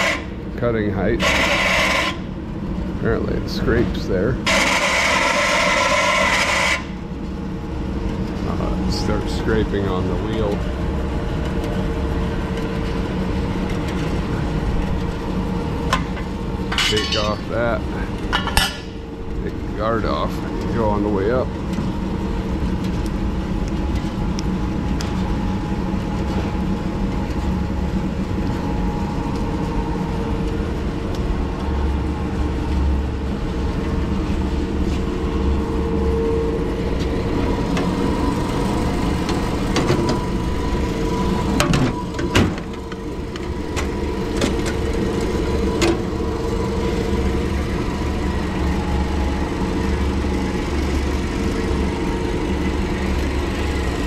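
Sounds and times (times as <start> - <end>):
bandsaw humming and whining: 0.0 - 3.8, 4.4 - 54.0.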